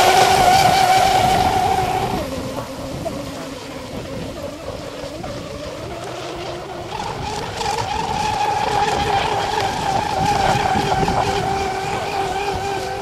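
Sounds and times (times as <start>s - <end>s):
boat motor high whine: 0.0s - 13.0s.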